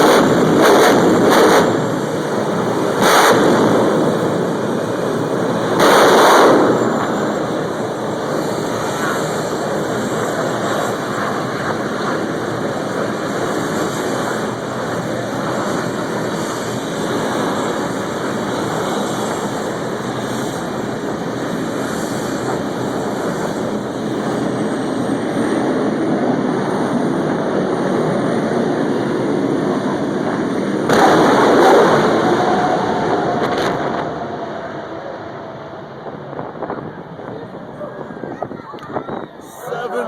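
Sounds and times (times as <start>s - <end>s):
jet turbine engine roaring: 0.0s - 40.0s.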